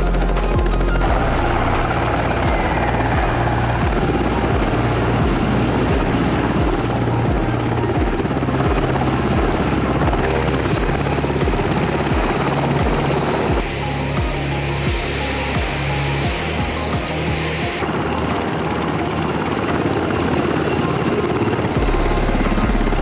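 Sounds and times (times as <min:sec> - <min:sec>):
helicopter rotor and turbine: 0:00.0 - 0:23.0.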